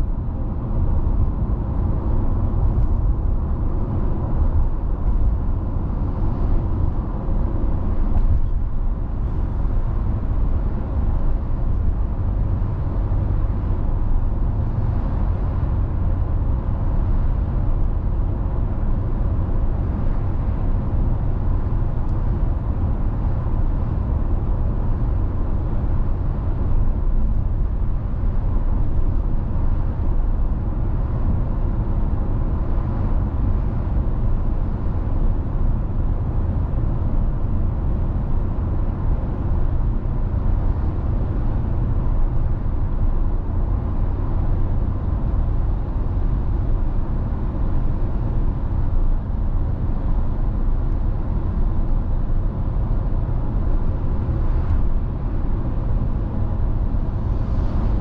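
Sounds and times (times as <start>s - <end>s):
tyres rumbling on road: 0.0s - 58.0s.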